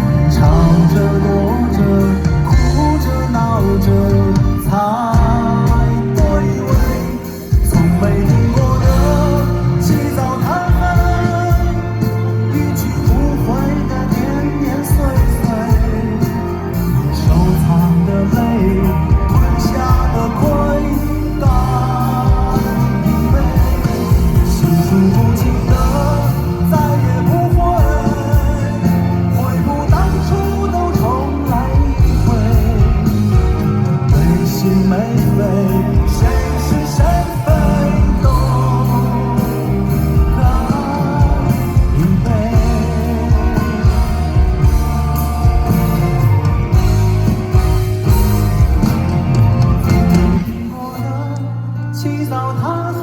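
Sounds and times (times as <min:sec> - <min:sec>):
live pop-rock band playing: 0:00.0 - 0:53.0
person singing with vibrato: 0:00.0 - 0:53.0.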